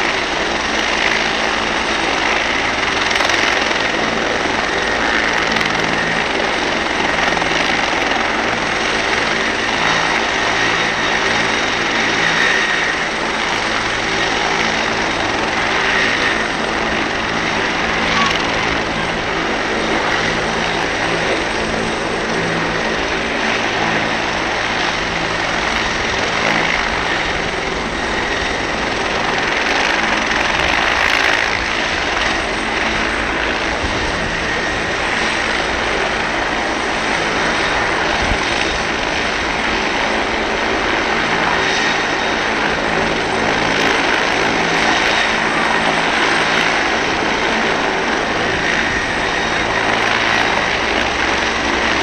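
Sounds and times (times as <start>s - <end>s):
helicopter turbine and rotor: 0.0s - 52.0s.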